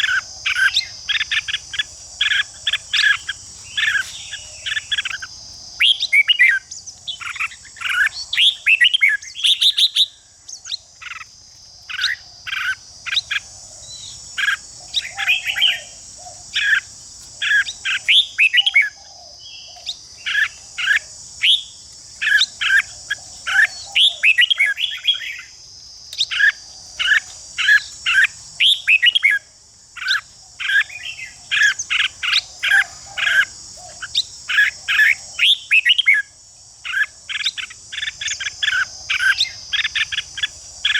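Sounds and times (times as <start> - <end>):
birds singing and chattering: 0.0 - 40.9
steady high insect buzz: 0.0 - 40.9.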